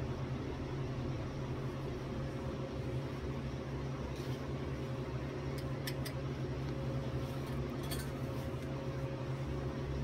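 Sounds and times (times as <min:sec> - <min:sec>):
welder electrical hum and fan hiss: 0:00.0 - 0:10.0.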